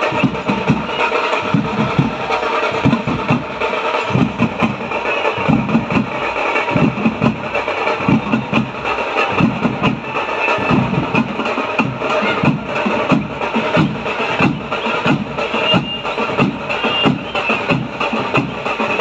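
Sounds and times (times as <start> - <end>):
dense crowd din: 0.0 - 19.0.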